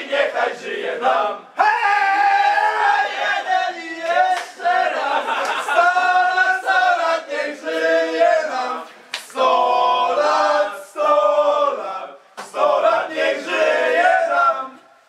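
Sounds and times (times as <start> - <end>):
men singing in chorus: 2.5 - 14.8.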